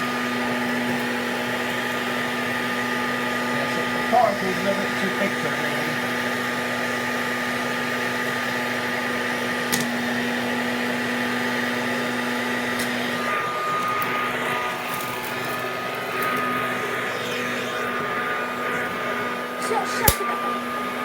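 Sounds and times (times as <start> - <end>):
hand vacuum motor humming: 0.0 - 21.0.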